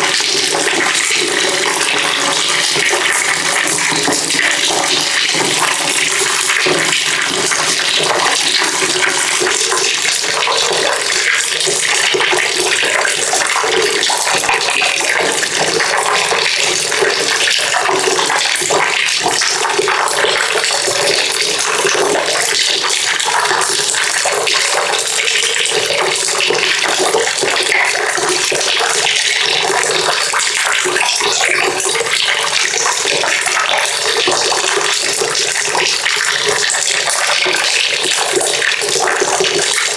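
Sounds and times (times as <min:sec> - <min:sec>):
water pouring into a bucket: 0:00.0 - 0:39.9.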